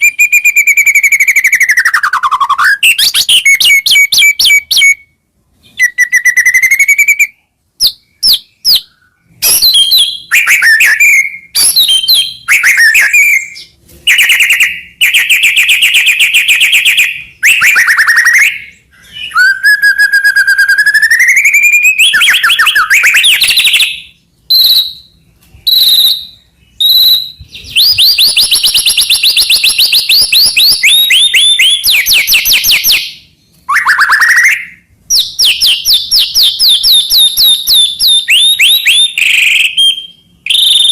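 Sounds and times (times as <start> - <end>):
songbird whistling and trilling: 0.0 - 40.9.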